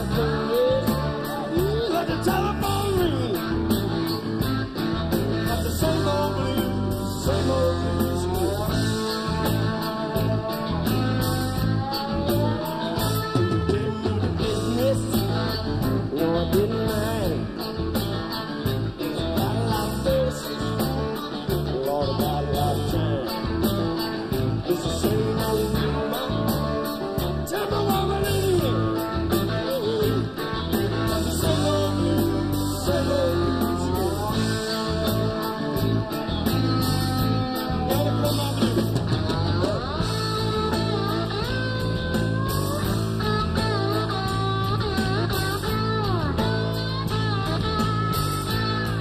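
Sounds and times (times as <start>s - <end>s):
man singing: 0.0s - 4.4s, 5.0s - 42.0s
live blues-rock band: 0.0s - 49.0s.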